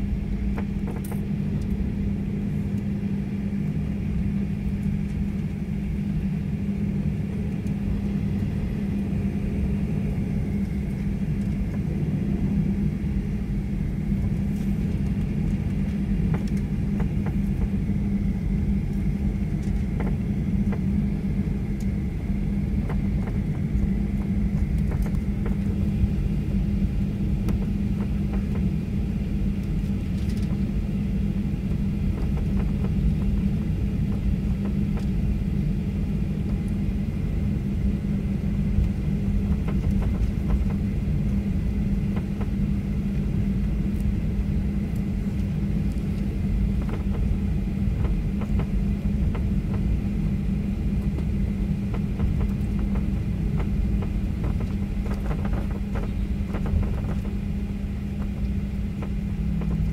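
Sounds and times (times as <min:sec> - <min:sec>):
airplane cabin rumble: 0:00.0 - 0:59.9
steady low hum: 0:00.0 - 0:59.9.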